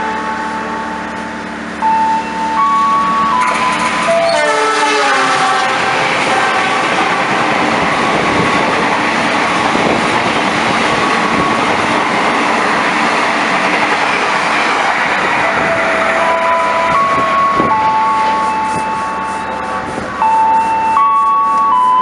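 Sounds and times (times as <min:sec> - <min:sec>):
train passing on track: 0:00.0 - 0:22.0.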